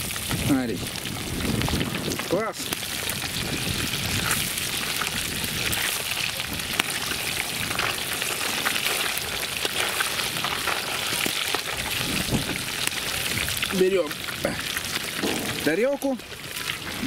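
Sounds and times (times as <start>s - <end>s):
fish deep-frying in hot oil: 0.0s - 17.0s.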